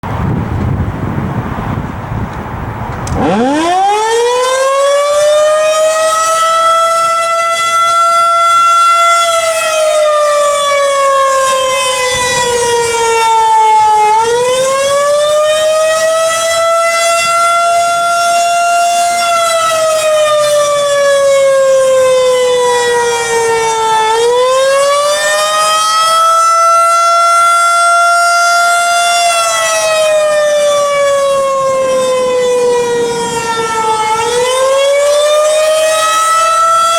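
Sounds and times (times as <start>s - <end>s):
wailing warning siren: 0.0s - 36.9s.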